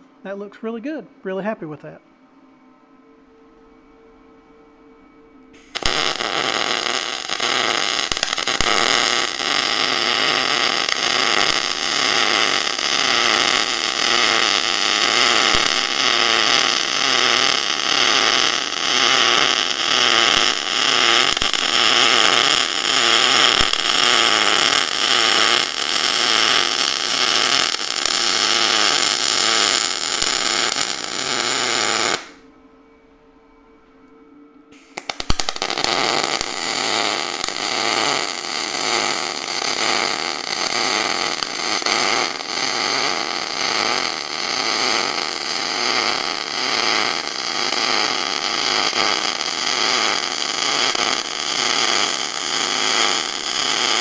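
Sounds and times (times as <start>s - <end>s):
welding arc crackling: 5.6s - 32.4s, 34.8s - 54.0s.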